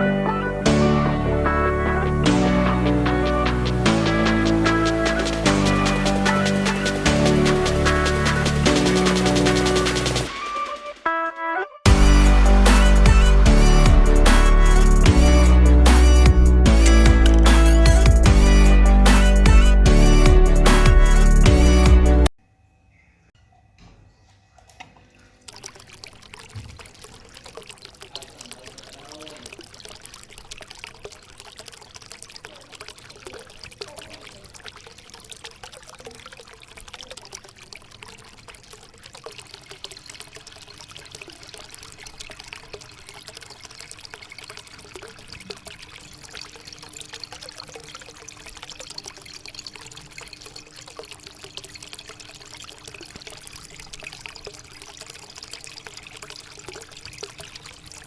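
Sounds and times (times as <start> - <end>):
water trickling in fountain: 0.0 - 10.3, 11.9 - 22.0, 24.5 - 58.0.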